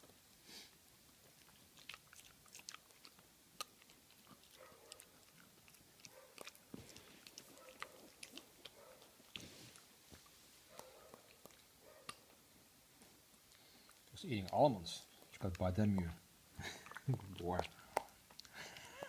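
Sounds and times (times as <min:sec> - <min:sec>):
dog crunching nuts: 0:01.1 - 0:12.4, 0:13.5 - 0:19.0.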